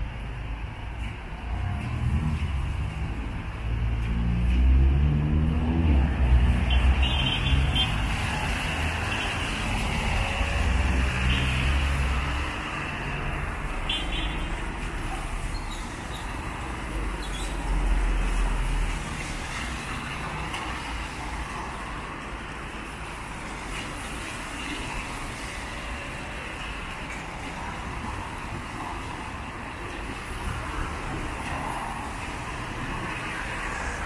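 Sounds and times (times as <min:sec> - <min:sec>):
car engines: 0:00.0 - 0:34.0
tyres hissing on wet road: 0:00.2 - 0:34.0.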